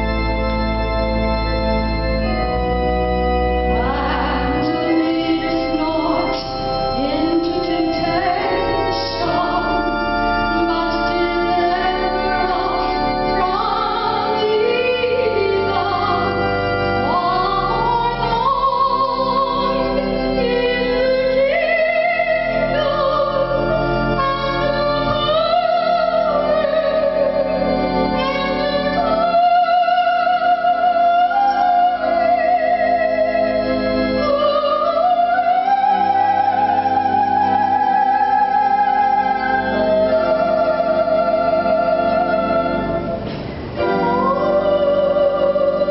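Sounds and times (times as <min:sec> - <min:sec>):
held keyboard chords: 0:00.0 - 0:45.9
person singing with vibrato: 0:03.7 - 0:45.9.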